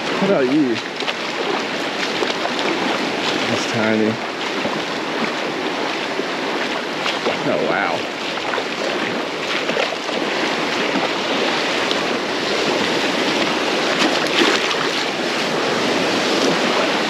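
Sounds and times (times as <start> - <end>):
surf washing and sloshing: 0.0 - 17.0
wind on microphone: 0.0 - 17.0.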